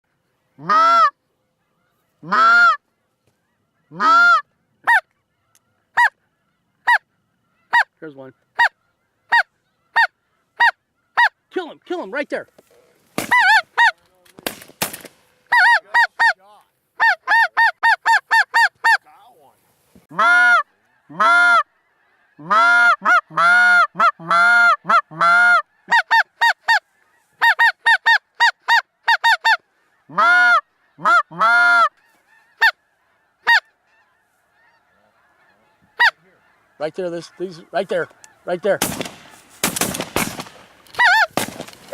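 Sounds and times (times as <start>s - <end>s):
snow goose honking: 0.1s - 41.9s.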